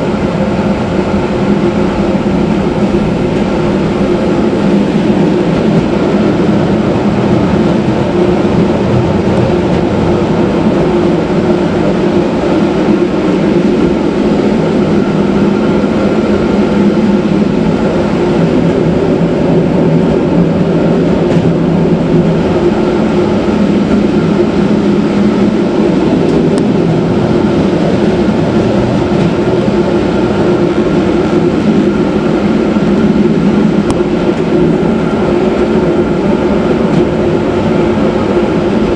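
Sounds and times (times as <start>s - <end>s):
electric train drive hum: 0.0s - 38.9s
wheels rolling on rail: 0.0s - 38.9s.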